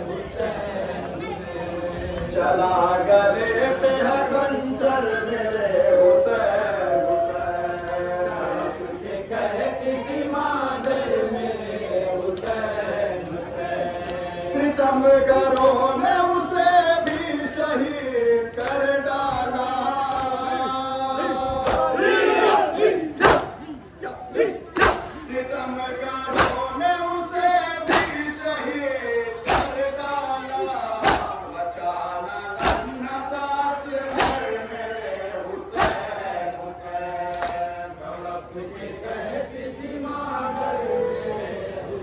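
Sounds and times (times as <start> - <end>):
men chanting mourning lament: 0.0 - 42.0.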